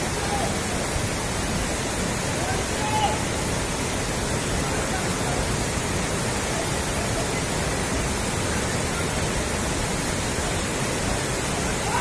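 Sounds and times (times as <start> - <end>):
floodwater rushing over road: 0.0 - 12.0.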